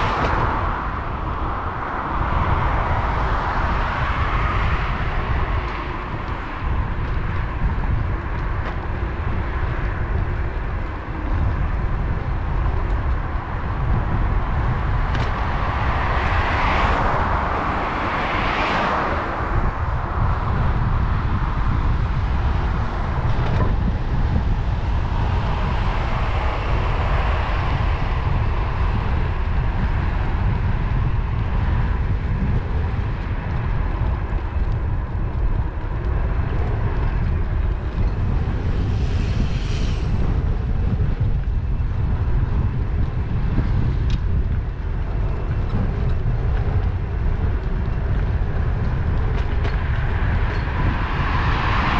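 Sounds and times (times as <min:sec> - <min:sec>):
vehicles passing: 0:00.0 - 0:51.9
wind buffeting microphone: 0:00.0 - 0:51.9.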